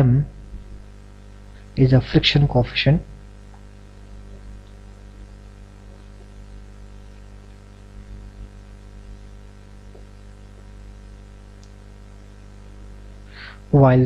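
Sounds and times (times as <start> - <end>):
electrical hum: 0.0 - 14.0
low hiss: 0.0 - 14.0.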